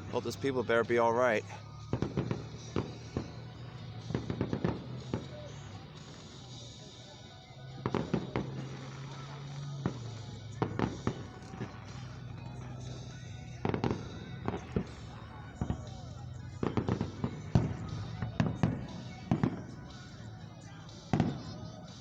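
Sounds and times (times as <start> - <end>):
fireworks bursting with sharp bangs: 0.0 - 22.0.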